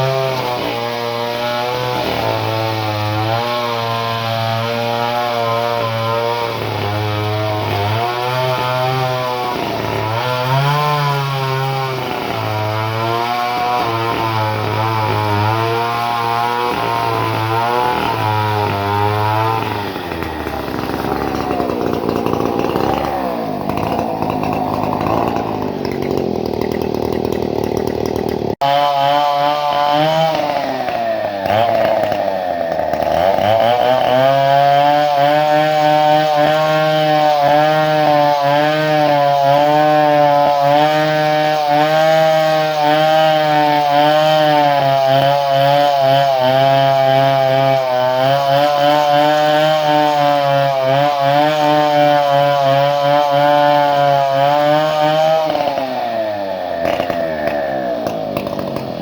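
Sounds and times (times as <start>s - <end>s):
chainsaw engine running: 0.0s - 59.0s.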